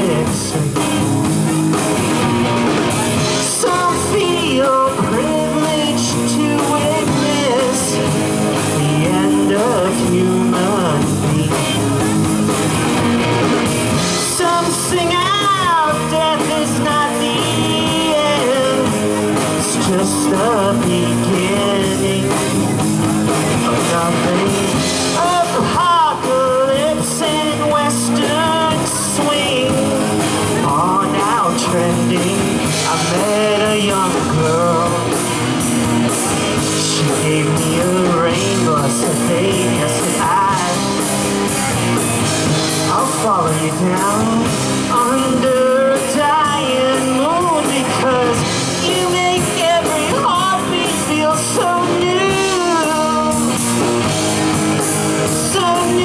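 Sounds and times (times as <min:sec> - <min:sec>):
bending electric guitar notes: 0:00.0 - 0:56.0
live rock band playing: 0:00.0 - 0:56.0.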